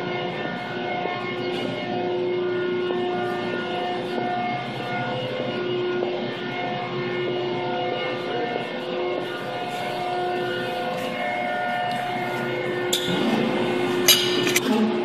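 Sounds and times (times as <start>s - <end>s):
hydraulic pump humming and whining: 0.0s - 15.0s.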